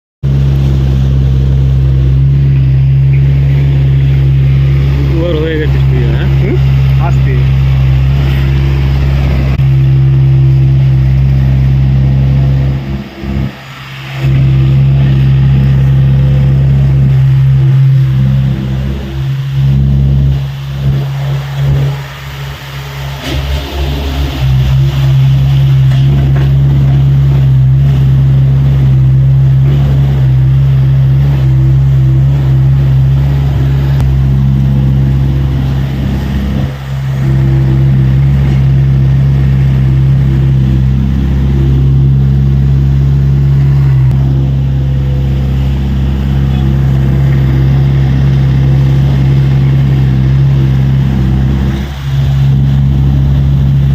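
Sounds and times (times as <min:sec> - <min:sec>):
excavator diesel engine running: 0:00.2 - 0:53.9.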